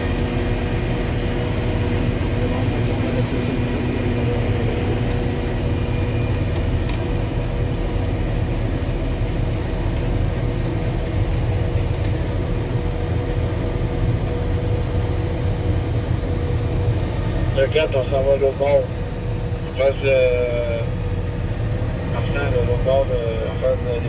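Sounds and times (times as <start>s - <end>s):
wheel loader engine drone: 0.0s - 24.0s.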